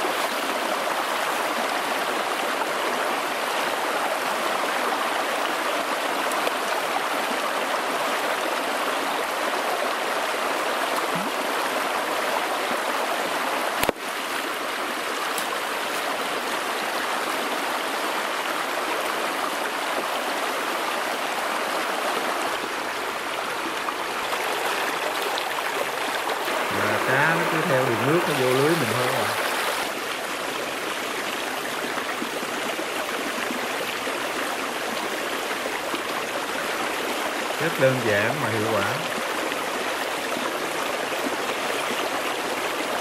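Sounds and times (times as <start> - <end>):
stream rushing over stones: 0.0 - 43.0.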